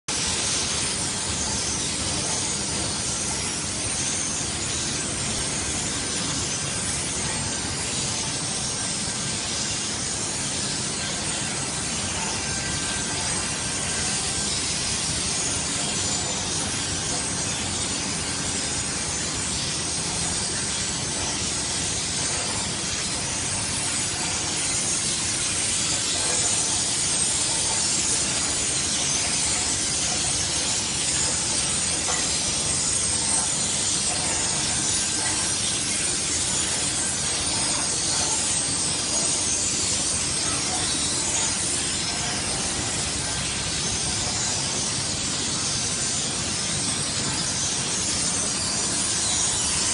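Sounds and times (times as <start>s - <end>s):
dough line machinery running: 0.1s - 49.9s.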